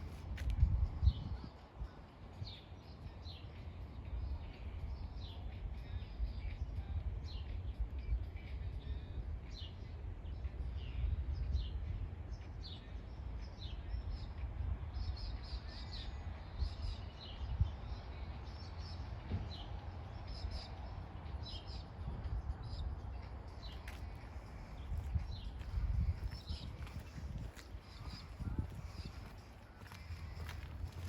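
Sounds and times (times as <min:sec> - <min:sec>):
steady low rumble: 0:00.0 - 0:31.0
birds chirping: 0:01.0 - 0:31.0.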